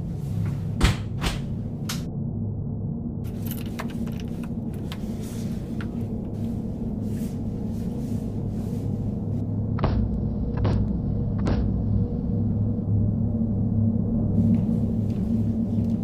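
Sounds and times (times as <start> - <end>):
low ominous rumbling drone: 0.0 - 16.0.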